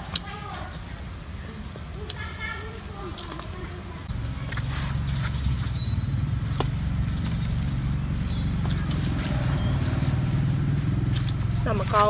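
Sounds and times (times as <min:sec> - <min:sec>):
people chewing: 0:00.0 - 0:12.0
steady low rumble: 0:00.7 - 0:12.0.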